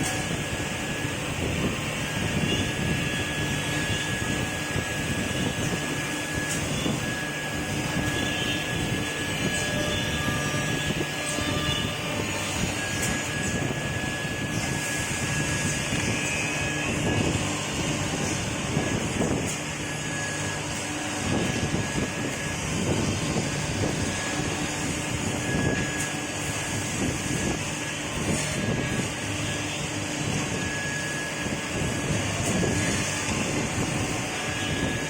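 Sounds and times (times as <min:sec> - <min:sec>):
milling machine humming: 0:00.0 - 0:35.0
thin high whine: 0:00.0 - 0:35.0.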